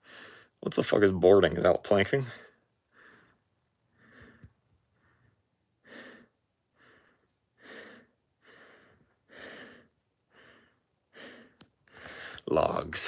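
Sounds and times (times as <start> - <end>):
man breathing hard through mask: 0.0 - 0.6, 2.5 - 12.4.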